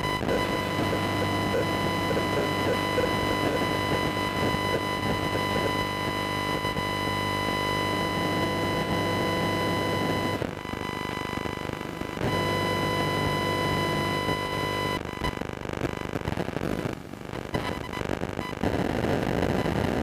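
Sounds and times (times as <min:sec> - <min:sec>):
buzz of radio static: 0:00.0 - 0:20.0.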